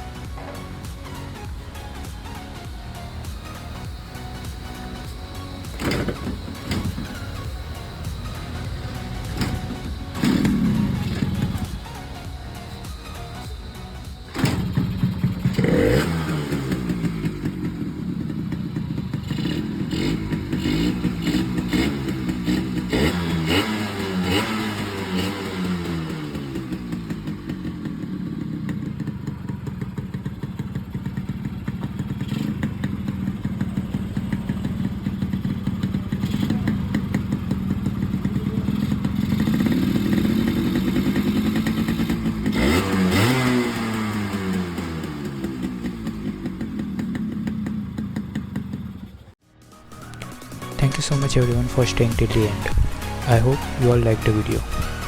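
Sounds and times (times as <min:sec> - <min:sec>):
two-stroke motorcycle engine revving: 0:00.0 - 0:49.4, 0:50.0 - 0:55.0.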